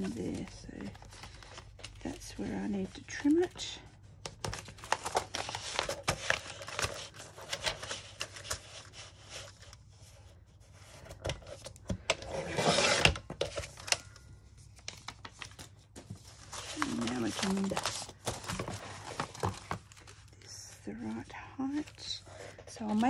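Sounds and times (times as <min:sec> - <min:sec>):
paper rustling: 0:00.0 - 0:23.0.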